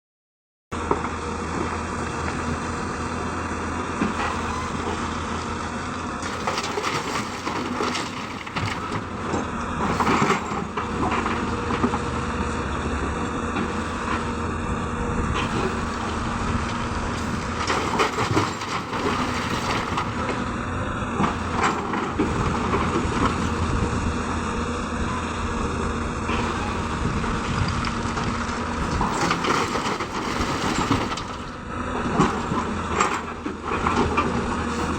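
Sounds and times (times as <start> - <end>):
excavator diesel engine running: 0.8 - 34.9.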